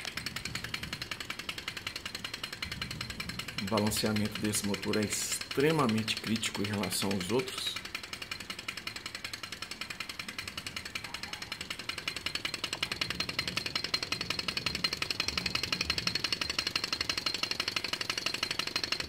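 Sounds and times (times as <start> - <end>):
small engine ticking clatter: 0.0 - 19.0.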